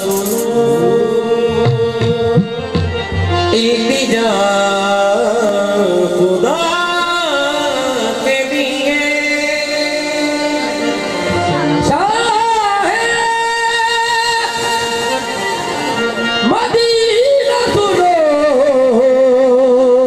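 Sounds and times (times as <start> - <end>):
harmonium playing: 0.0 - 20.0
man singing: 0.0 - 20.0.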